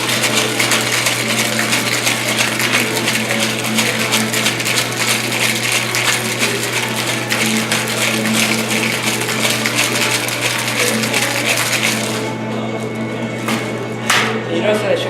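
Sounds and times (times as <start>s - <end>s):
ice rattling in cocktail shaker: 0.0s - 13.8s.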